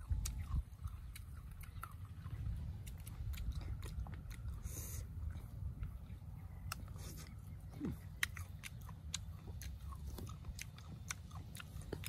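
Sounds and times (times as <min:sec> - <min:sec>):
person chewing crunchy fruit: 0:00.0 - 0:12.0.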